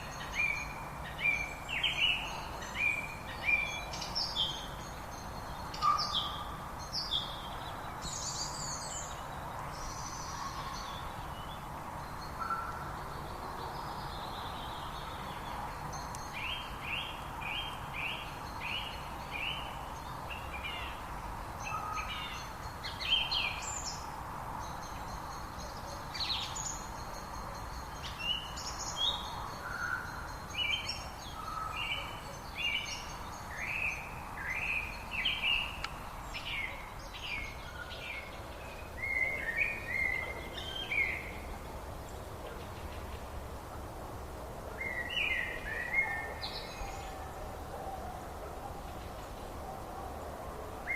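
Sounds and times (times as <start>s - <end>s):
songbirds chirping and trilling: 0.0s - 50.9s
steady background hiss: 0.0s - 50.9s.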